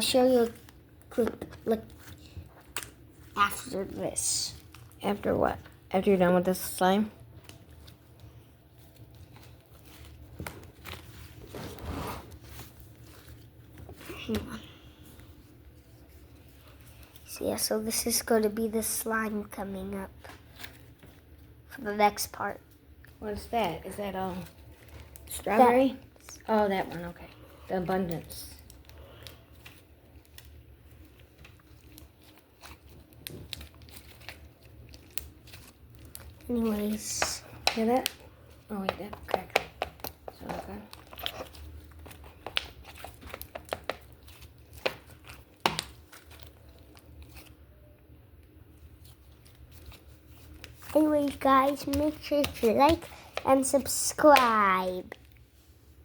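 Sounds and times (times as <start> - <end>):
wax layer crackling: 0.0 - 56.0.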